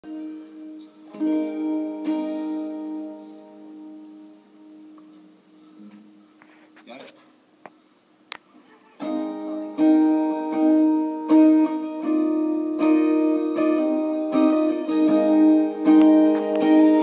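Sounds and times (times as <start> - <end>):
acoustic strings strumming chords: 0.0 - 7.3, 8.2 - 17.0.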